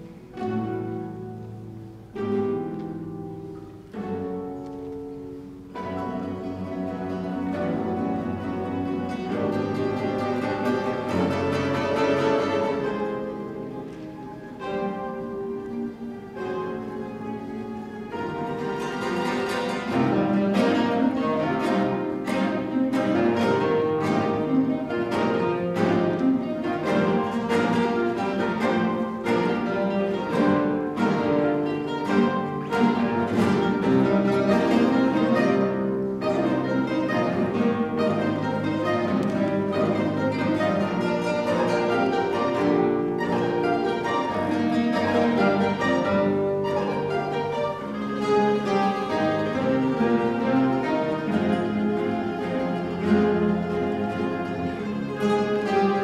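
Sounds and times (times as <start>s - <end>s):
classical guitar ensemble playing: 0.0s - 56.0s.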